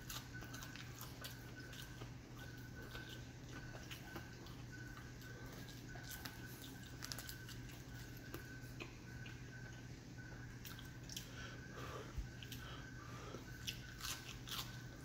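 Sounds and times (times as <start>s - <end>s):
chewing crunches: 0.0s - 11.4s, 12.2s - 15.0s
low steady hum: 0.0s - 15.0s.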